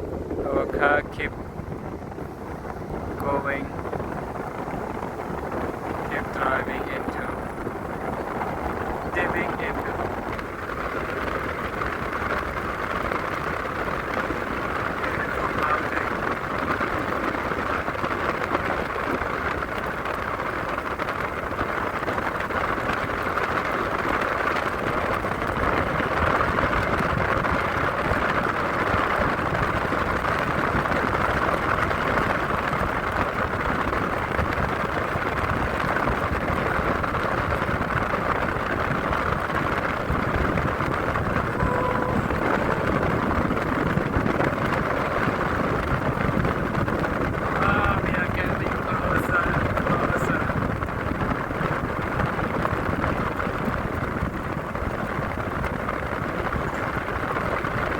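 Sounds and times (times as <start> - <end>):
car road and wind noise: 0.0 - 57.9.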